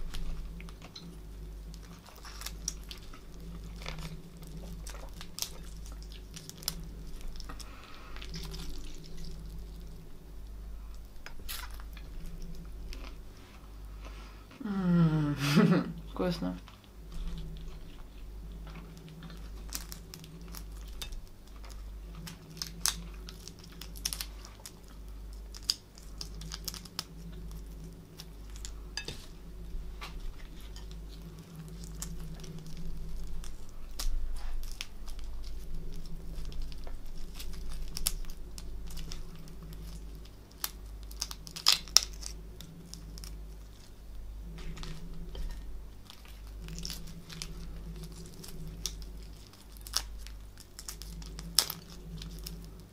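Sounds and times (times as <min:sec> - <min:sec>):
prawn shells cracking: 0:00.0 - 0:13.3, 0:16.7 - 0:29.1, 0:30.2 - 0:52.9
steady low hum: 0:00.0 - 0:52.9.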